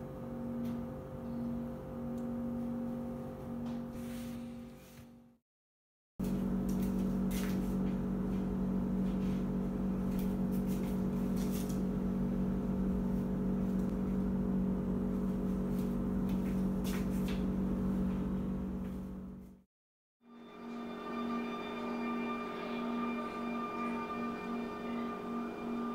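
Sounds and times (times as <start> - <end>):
low mechanical motor hum: 0.0 - 4.7, 6.2 - 19.6, 20.4 - 25.9.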